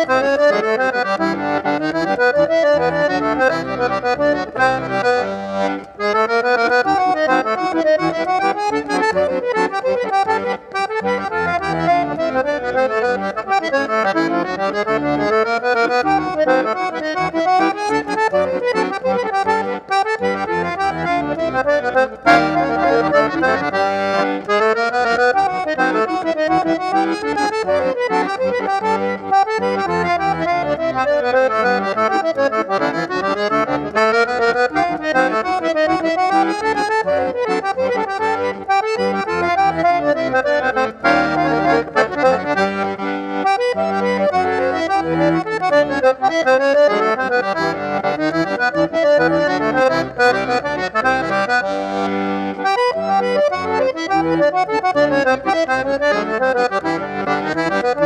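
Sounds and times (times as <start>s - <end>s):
accordion playing: 0.0s - 58.0s.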